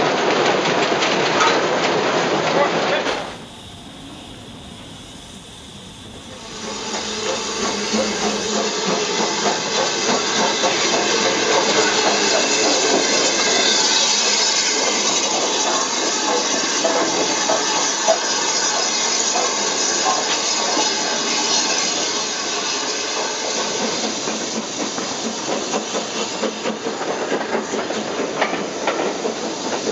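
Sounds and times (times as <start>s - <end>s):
steam locomotive hissing steam: 1.7s - 29.9s.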